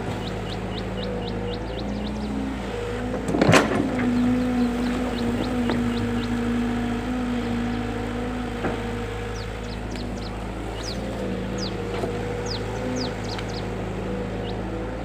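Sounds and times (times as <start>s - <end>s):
birds chirping: 0.0s - 15.0s
excavator engine running: 0.0s - 15.0s.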